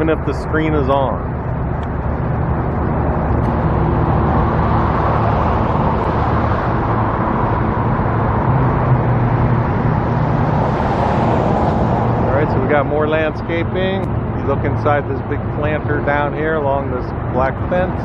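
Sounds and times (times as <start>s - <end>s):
low engine hum: 0.0s - 18.0s
vehicles passing: 0.0s - 18.0s.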